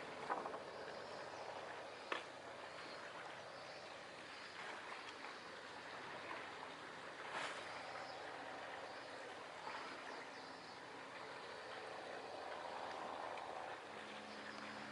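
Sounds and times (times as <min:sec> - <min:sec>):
small waves lapping: 0:00.0 - 0:14.9.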